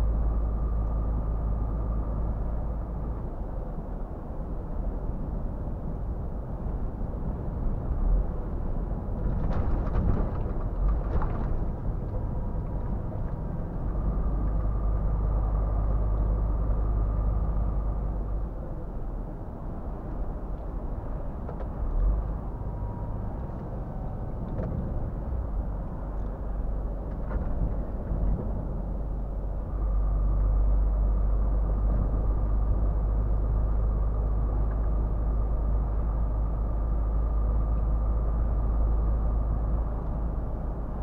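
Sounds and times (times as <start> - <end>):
truck engine drone: 0.0 - 41.0.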